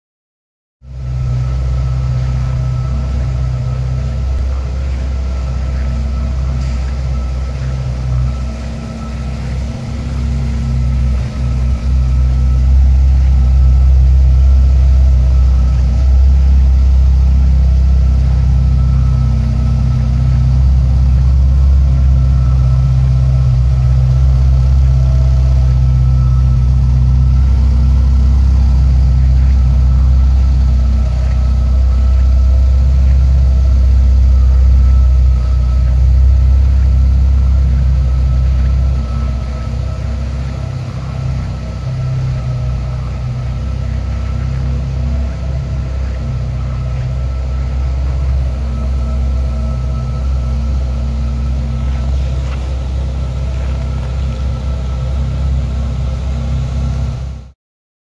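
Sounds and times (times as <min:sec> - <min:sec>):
car engine idling: 0:00.9 - 0:57.5.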